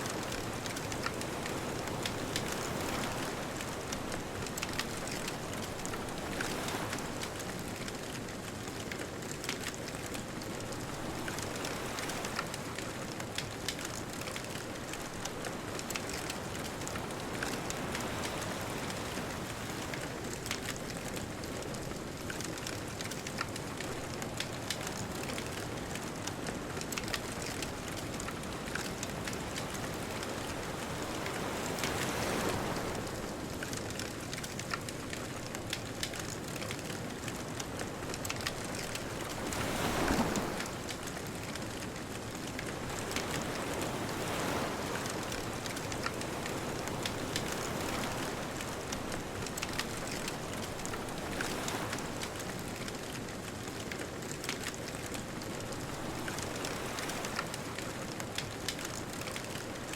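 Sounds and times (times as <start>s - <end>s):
ocean waves washing ashore: 0.0s - 59.9s
bonfire crackling: 0.1s - 10.9s, 11.6s - 59.6s.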